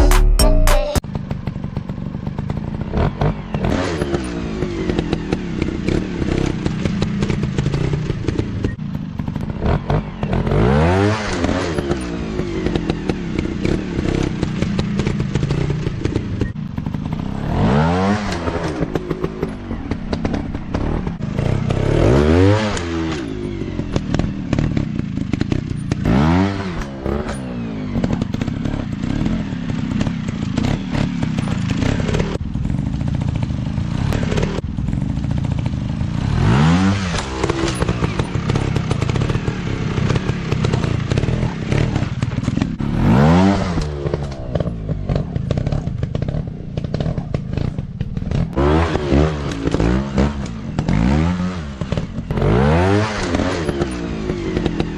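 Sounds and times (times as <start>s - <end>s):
dirt bike engines revving: 1.2s - 54.9s.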